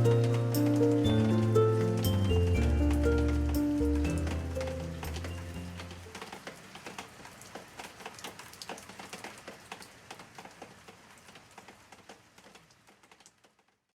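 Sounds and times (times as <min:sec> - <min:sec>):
rain pattering: 0:00.0 - 0:13.9.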